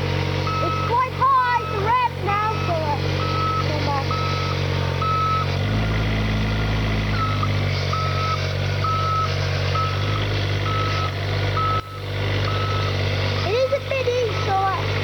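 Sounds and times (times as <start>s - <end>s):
excavator diesel engine under load: 0.0s - 15.0s
reversing alarm beeping: 0.4s - 5.5s, 7.1s - 14.8s.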